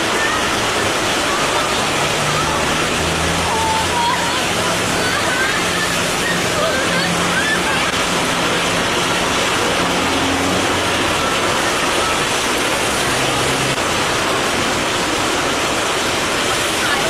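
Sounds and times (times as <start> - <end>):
heavy rain on flooded street: 0.0 - 17.0.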